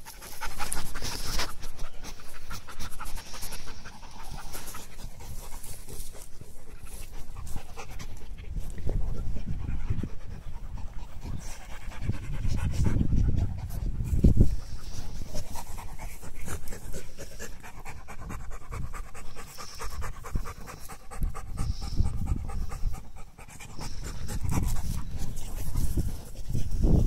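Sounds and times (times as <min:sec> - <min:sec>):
dog panting: 0:00.0 - 0:27.0.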